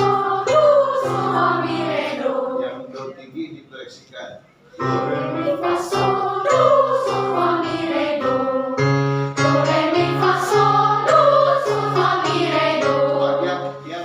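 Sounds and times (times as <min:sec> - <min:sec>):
children's choir singing: 0:00.0 - 0:03.1, 0:04.8 - 0:14.0.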